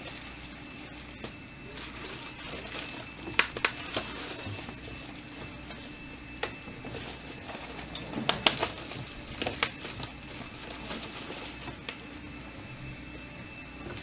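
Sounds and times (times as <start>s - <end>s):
plastic packing material crinkling: 0.0s - 12.4s.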